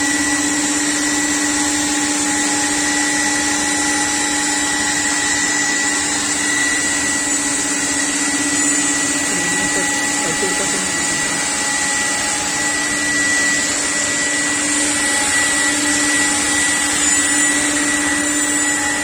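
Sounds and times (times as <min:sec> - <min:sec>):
cutting machine whine: 0:00.0 - 0:19.0.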